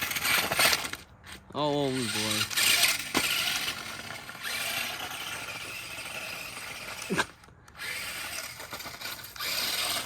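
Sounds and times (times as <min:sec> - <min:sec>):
toy truck electric motor whining: 0:00.0 - 0:10.0.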